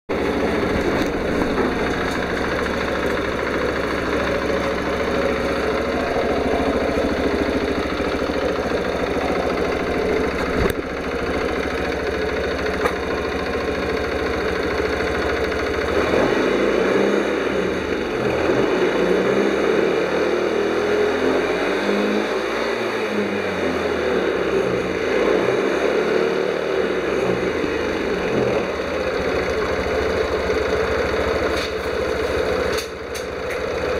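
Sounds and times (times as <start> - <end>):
scooter engine idling: 0.1 - 21.4, 26.6 - 33.9.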